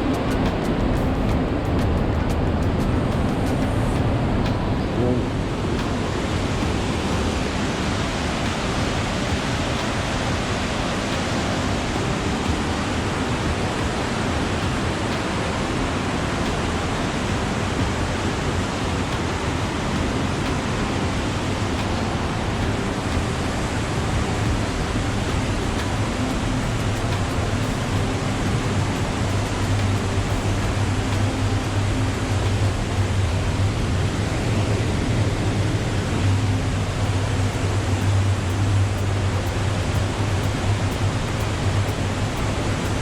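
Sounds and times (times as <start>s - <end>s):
sea: 0.0s - 43.0s
wind: 0.0s - 43.0s.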